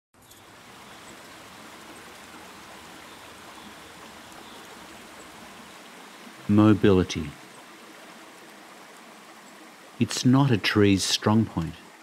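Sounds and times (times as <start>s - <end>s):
creek running over rocks: 0.2s - 12.0s.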